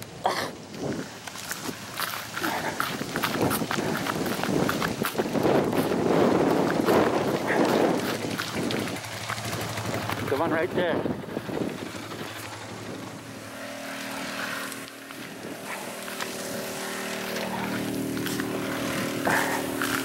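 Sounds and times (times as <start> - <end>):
quad engine running: 0.0 - 20.0.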